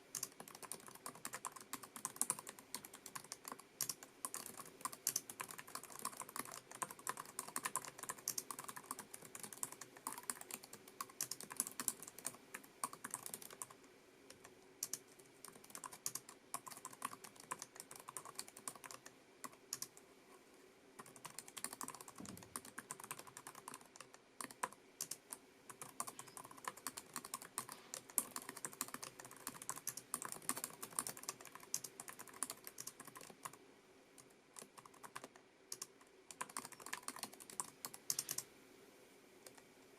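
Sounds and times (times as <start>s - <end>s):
keyboard keys clicking: 0.1s - 13.7s, 14.4s - 19.9s, 21.0s - 25.2s, 25.8s - 33.6s, 34.2s - 38.4s.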